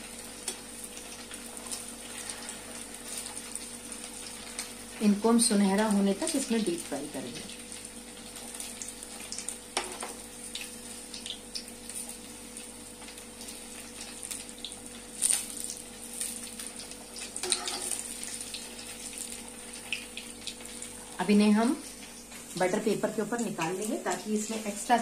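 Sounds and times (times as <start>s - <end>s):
hot oil sizzling: 0.0s - 25.0s.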